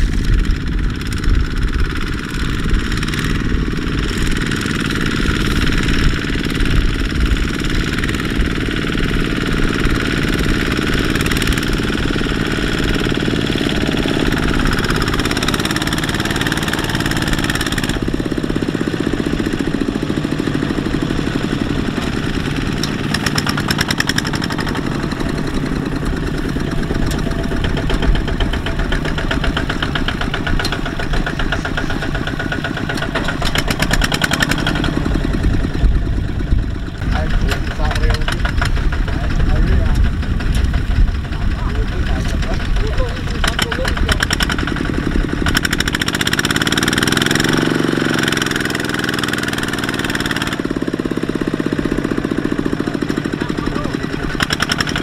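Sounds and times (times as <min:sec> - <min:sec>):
diesel engines knocking chug: 0:00.0 - 0:55.0.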